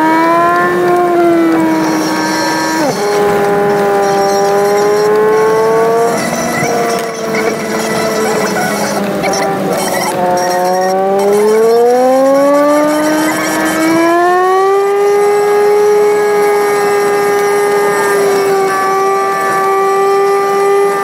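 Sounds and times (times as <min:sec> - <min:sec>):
sped-up car engine whine: 0:00.0 - 0:21.0.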